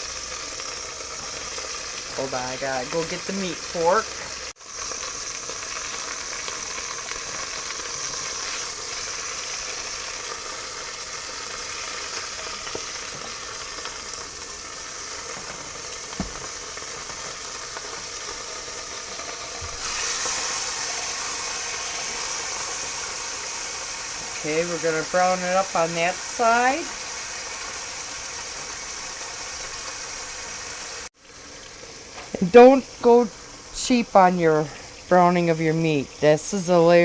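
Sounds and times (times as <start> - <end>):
meat sizzling in pot: 0.0 - 37.0.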